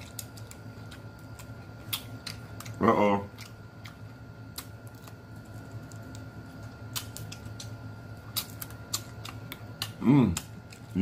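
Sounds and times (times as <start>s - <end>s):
faint background hum: 0.0s - 11.0s
wet chewing and lip-smacking: 0.0s - 11.0s.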